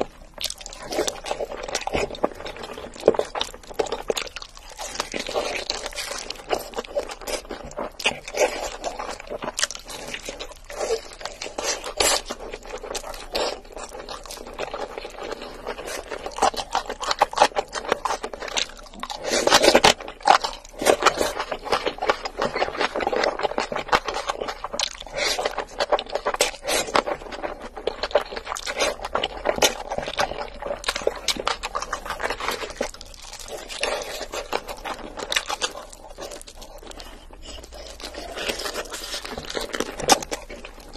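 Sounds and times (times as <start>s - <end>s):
crunching fried chicken: 0.0s - 40.9s
wet mouth sounds: 0.0s - 40.9s.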